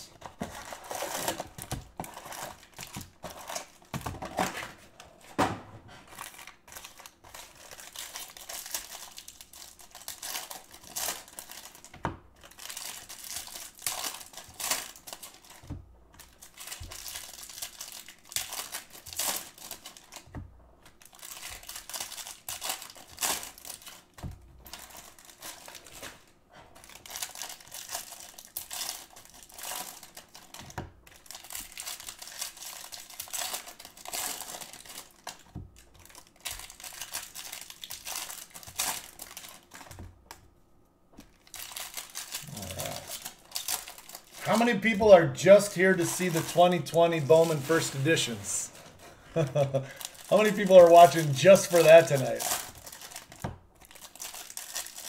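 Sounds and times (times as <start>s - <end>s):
foil wrappers crinkling and tearing: 0.0s - 5.0s, 5.9s - 40.4s, 41.2s - 55.0s.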